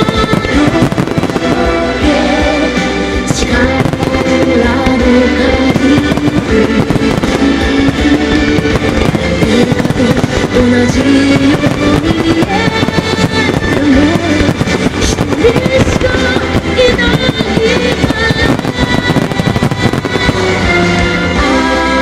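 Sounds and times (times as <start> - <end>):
fireworks bursting and crackling: 0.0 - 22.0
guitar-led music: 0.0 - 22.0.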